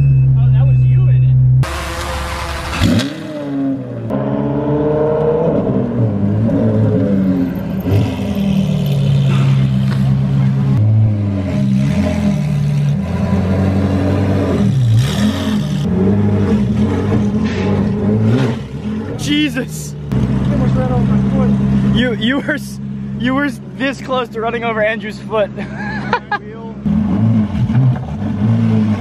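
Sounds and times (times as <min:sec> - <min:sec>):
car engine revving: 0:01.4 - 0:25.0, 0:25.6 - 0:29.0.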